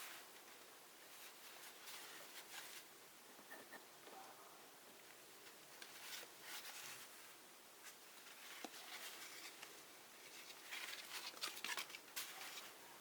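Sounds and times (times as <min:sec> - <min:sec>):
faint rustling: 0:00.0 - 0:04.4, 0:05.0 - 0:13.0.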